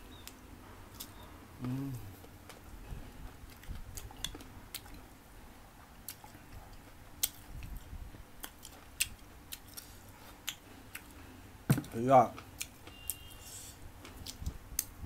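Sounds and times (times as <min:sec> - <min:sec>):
crunchy fruit being chewed: 0:00.1 - 0:05.2, 0:05.8 - 0:13.3.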